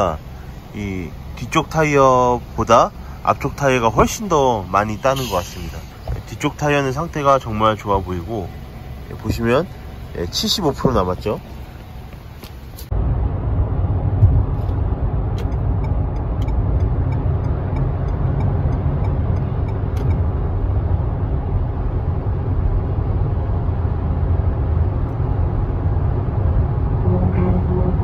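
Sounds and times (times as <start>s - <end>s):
car cabin road rumble: 0.0s - 28.0s.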